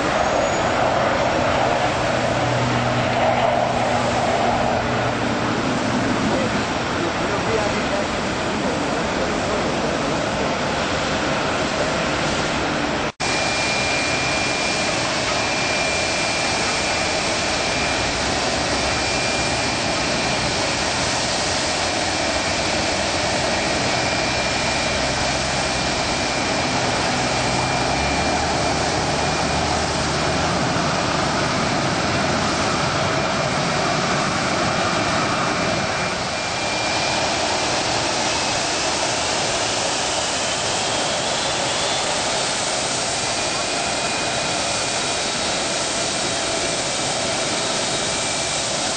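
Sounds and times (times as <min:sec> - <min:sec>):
high engine whine: 0:00.0 - 0:48.9
jet engines rushing: 0:00.0 - 0:48.9.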